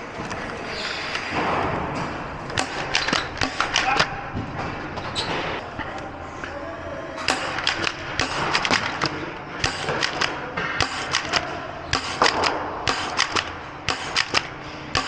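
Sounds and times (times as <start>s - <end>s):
darts hitting walls: 1.3s - 5.6s, 7.2s - 15.0s.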